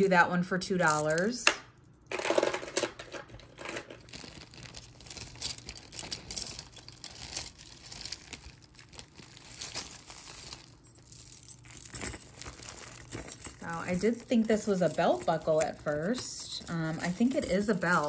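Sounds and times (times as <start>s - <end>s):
jewelry rustling and clicking: 0.8s - 18.0s.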